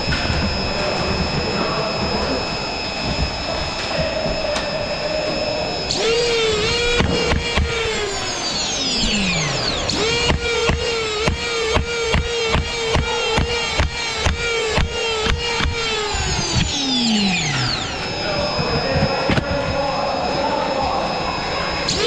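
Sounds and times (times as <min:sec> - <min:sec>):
toy blaster motor whine: 0:00.0 - 0:22.0.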